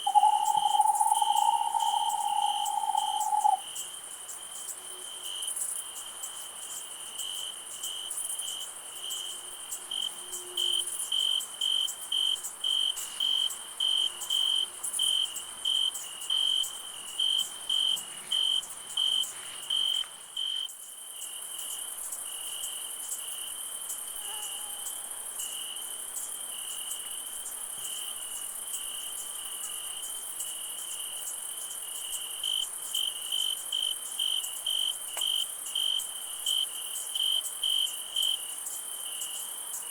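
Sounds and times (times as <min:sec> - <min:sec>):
crickets chirping: 0:00.0 - 0:39.9
steady high insect hiss: 0:00.0 - 0:39.9.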